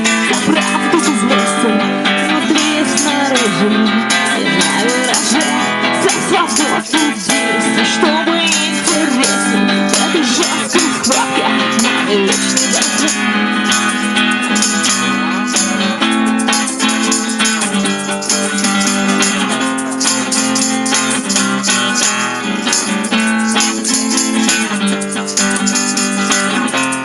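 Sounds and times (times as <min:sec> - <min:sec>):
shaker keeping the beat: 0:00.0 - 0:27.0
strummed acoustic guitar: 0:00.0 - 0:27.0.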